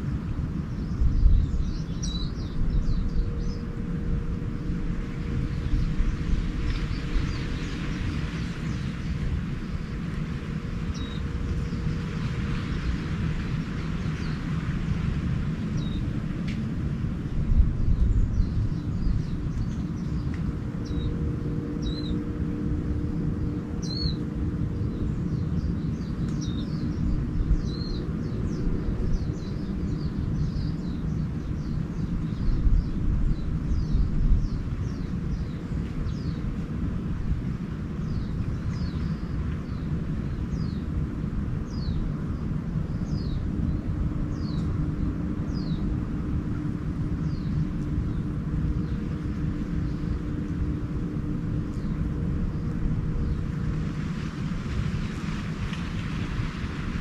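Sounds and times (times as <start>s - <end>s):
songbirds chirping: 0.0s - 57.0s
steady low rumble: 0.0s - 57.0s.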